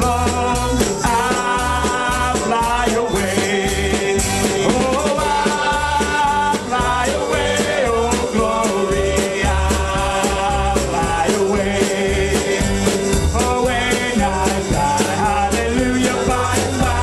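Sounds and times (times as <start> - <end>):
live band playing: 0.0 - 17.0
man singing a hymn: 0.0 - 17.0.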